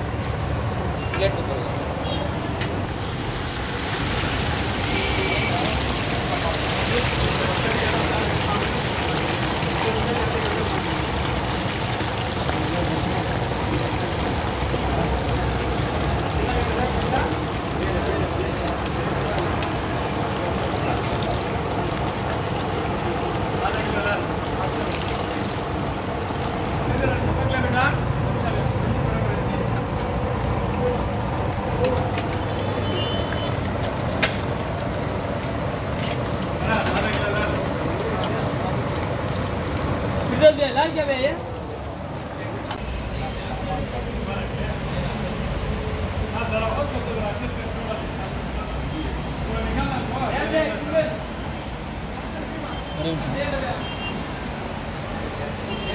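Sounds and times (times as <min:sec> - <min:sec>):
meat deep-frying in oil: 0:02.0 - 0:55.9.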